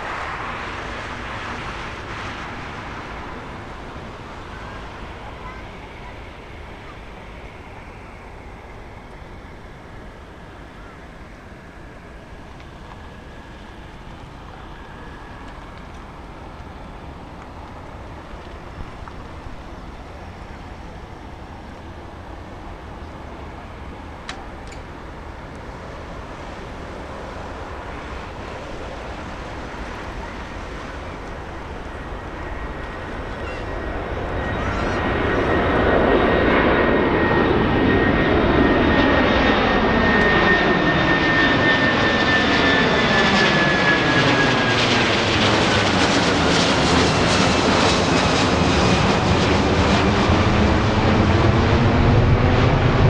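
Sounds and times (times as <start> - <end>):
distant jet engines rumbling: 0.0 - 53.0.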